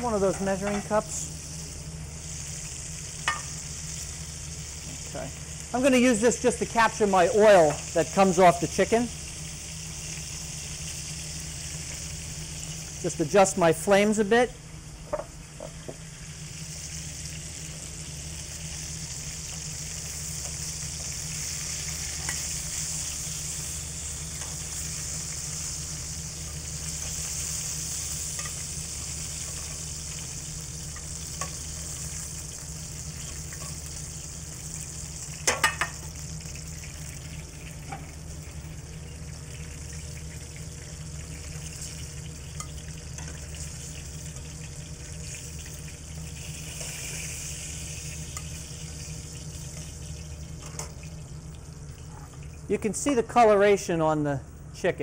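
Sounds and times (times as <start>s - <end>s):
chicken sizzling in a frying pan: 0.0s - 53.4s.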